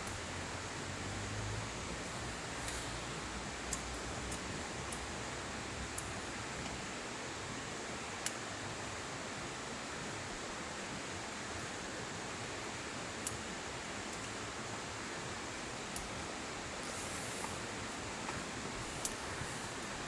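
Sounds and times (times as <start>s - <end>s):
campfire hissing and crackling: 0.0s - 20.0s.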